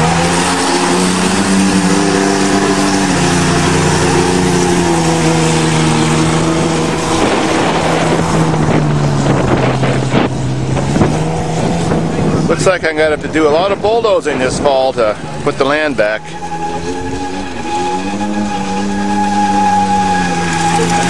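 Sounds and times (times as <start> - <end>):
engine at high revs: 0.0 - 21.0
wind and tyre noise: 0.0 - 21.0.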